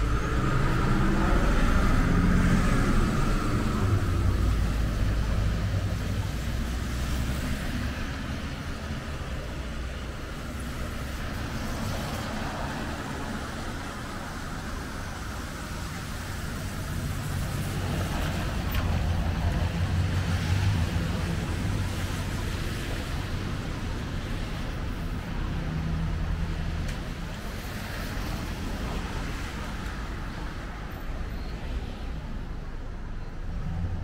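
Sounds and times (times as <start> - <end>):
tyres hissing on wet road: 0.0 - 32.6.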